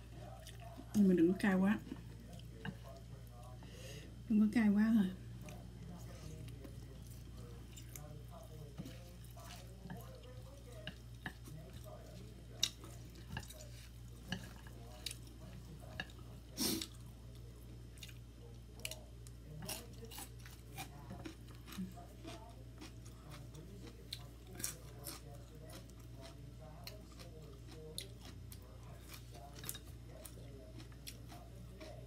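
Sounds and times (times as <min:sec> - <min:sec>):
steady low hum: 0:00.0 - 0:32.0
wet chewing and smacking: 0:00.1 - 0:01.0, 0:05.3 - 0:32.0.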